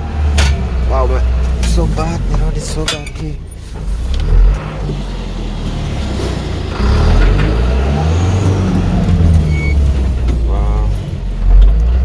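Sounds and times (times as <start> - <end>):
vehicle engine labouring: 0.0 - 12.0.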